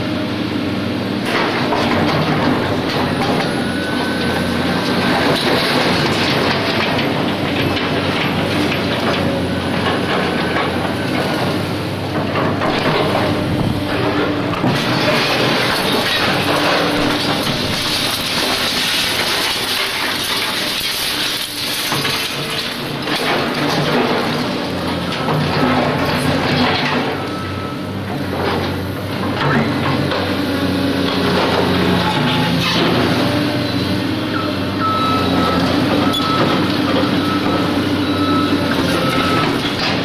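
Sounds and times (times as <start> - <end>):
mechanical rumble and clatter: 1.2 - 34.1.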